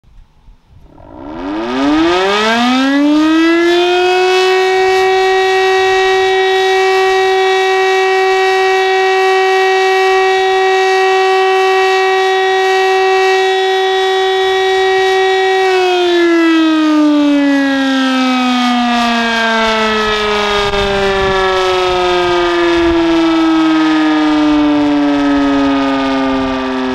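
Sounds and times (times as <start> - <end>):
electric siren winding up: 0.8 - 26.9.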